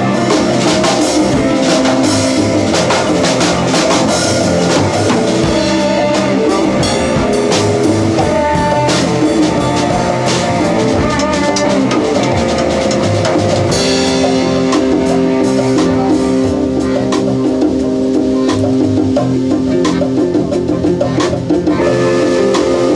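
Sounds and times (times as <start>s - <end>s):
saxophone: 0.0s - 17.6s, 18.3s - 22.9s
drum kit beat: 0.0s - 22.9s.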